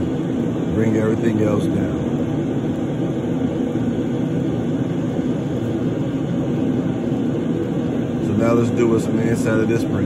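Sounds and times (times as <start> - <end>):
low rumbling background noise: 0.0 - 10.0.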